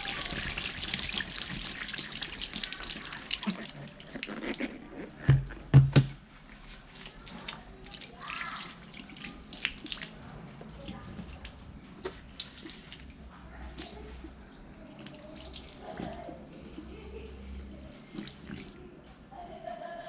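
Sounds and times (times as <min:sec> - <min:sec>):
water trickling and dripping: 0:00.0 - 0:04.6, 0:06.4 - 0:19.1.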